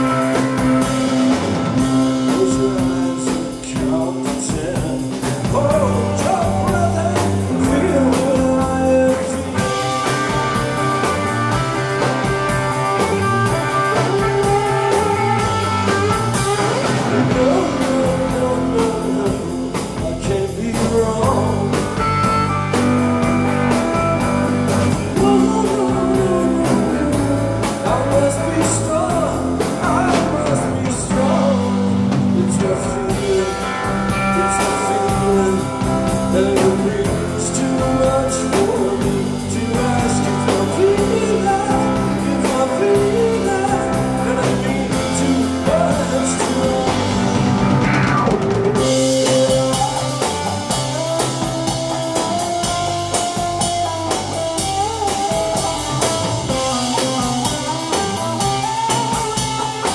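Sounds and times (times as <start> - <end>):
bass guitar: 0.0 - 59.9
drums: 0.0 - 59.9
electric guitar: 0.0 - 59.9
person singing: 0.0 - 59.9.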